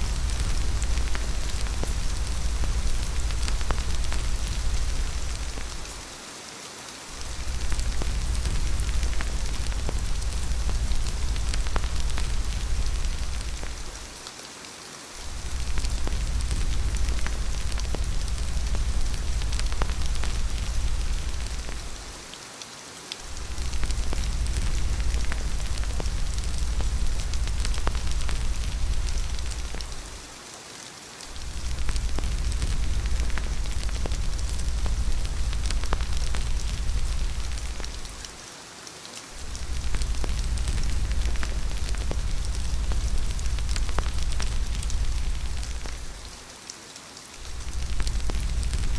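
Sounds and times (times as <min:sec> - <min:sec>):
deep low rumble: 0:00.0 - 0:06.0, 0:07.2 - 0:14.1, 0:15.2 - 0:22.2, 0:23.3 - 0:30.2, 0:31.3 - 0:38.3, 0:39.4 - 0:46.3, 0:47.4 - 0:48.9
sharp rain ticks: 0:00.0 - 0:48.9
steady rain hiss: 0:00.0 - 0:48.9.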